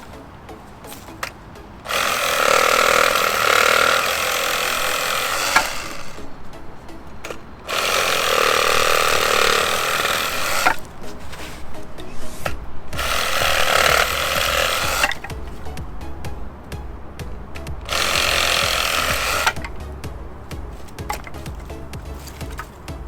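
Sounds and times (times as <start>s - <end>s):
reciprocating saw cutting branches: 0.0s - 23.0s.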